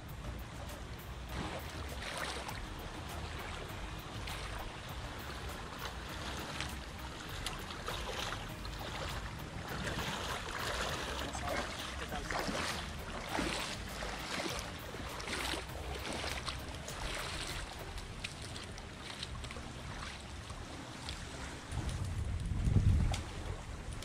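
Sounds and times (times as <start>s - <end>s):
water splashing and dripping: 0.0s - 24.0s
sloshing in shallow water: 0.1s - 24.0s.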